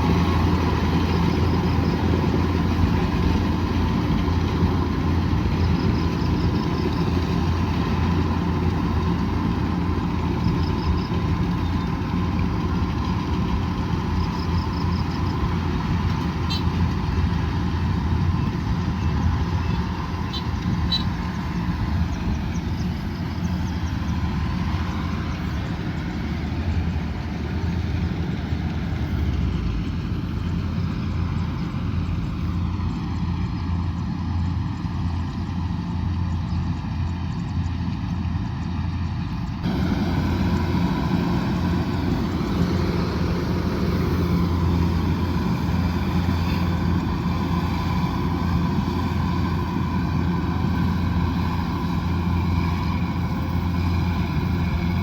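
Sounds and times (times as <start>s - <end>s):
combine harvester diesel engine hum: 0.0s - 55.0s.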